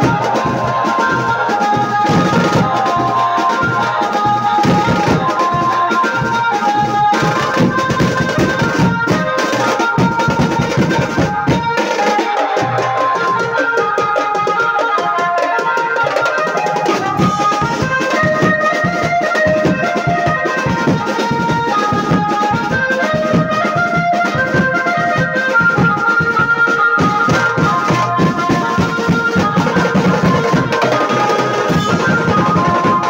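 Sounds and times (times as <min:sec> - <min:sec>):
drums beating fast: 0:00.0 - 0:33.0
melody of held notes: 0:00.0 - 0:33.0.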